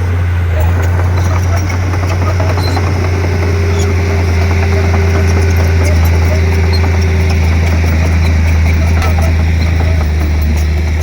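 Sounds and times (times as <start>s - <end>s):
bulldozer diesel engine humming: 0.0s - 11.0s.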